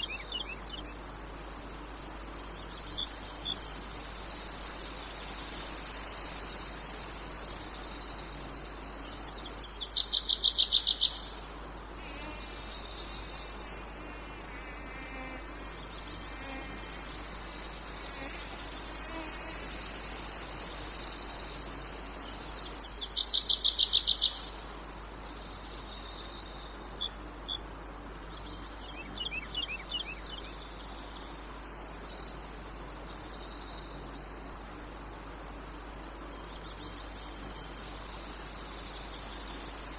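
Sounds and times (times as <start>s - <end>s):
insects trilling: 0.0s - 39.9s
pulsed insect chirp: 0.0s - 39.9s.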